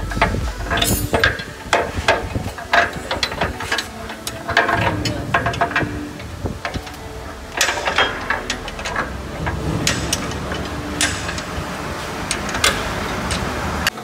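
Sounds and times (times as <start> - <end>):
spanner clicking on metal: 0.0 - 14.0
steady low hum: 0.0 - 14.0.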